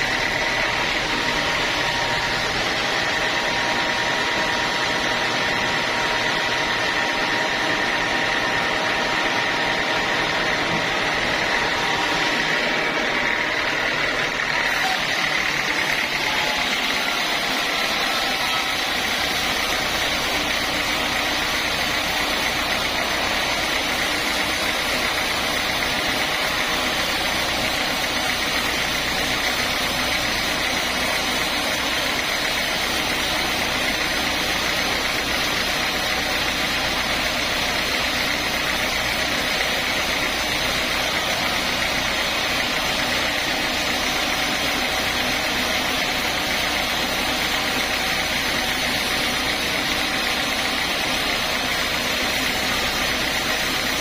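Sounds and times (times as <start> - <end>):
sawmill machinery humming and whining: 0.0 - 54.0.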